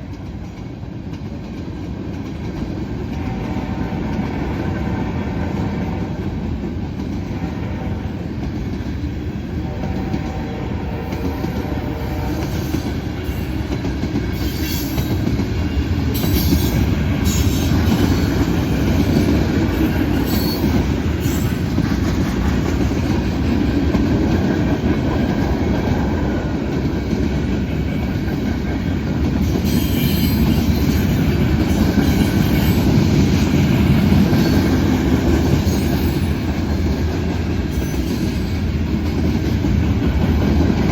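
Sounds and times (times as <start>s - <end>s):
freight train cars rumbling: 0.0s - 40.9s.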